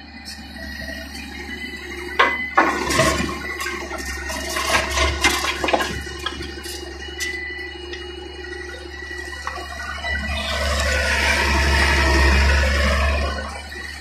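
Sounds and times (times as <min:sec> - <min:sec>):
excavator engine droning: 0:00.0 - 0:14.0
thin steady whine: 0:00.0 - 0:14.0.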